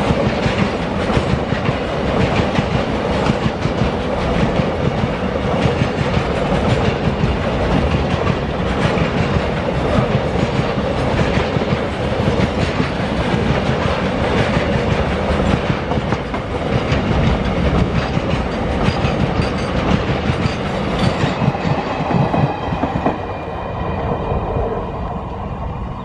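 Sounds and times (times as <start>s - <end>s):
train wheels clattering over rail joints: 0.0s - 23.2s.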